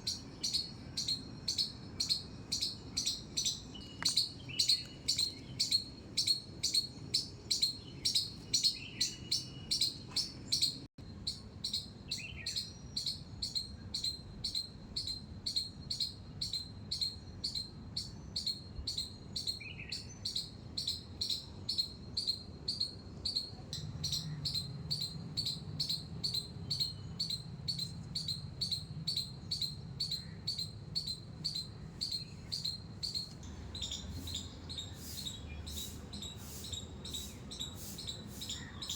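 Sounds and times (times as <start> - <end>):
squirrel squeaking: 0.0 - 38.9.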